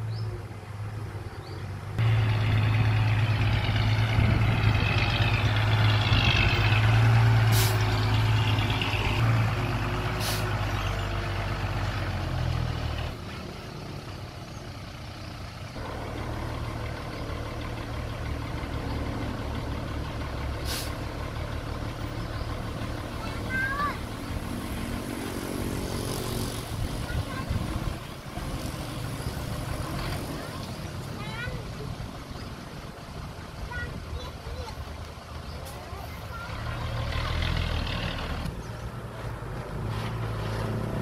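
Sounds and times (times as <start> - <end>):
heavy diesel machinery running: 2.0 - 41.0.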